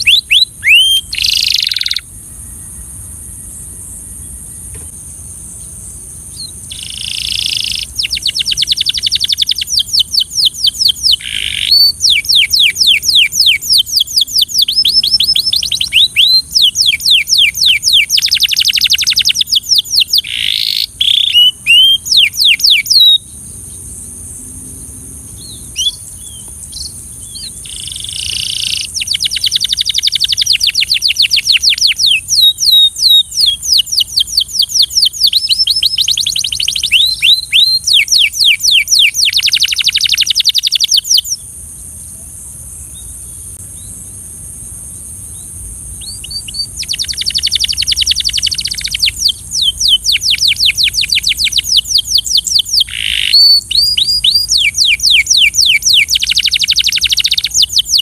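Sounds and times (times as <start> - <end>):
canary singing trills: 0.0 - 3.0, 5.5 - 23.9, 24.8 - 41.5, 45.3 - 58.0.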